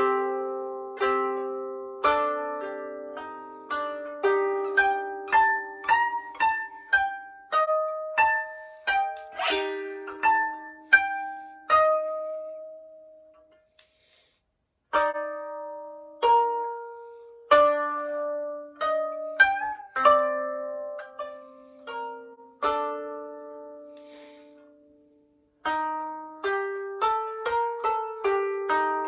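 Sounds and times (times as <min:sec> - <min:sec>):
koto plucked notes: 0:00.0 - 0:13.8, 0:14.9 - 0:29.0.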